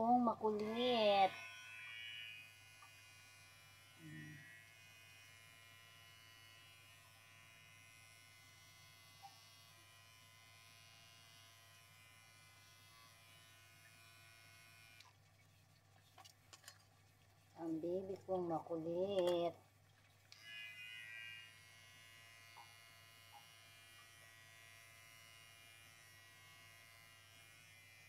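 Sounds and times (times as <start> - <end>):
electric hair clippers buzzing: 0.0 - 15.1, 20.3 - 28.0.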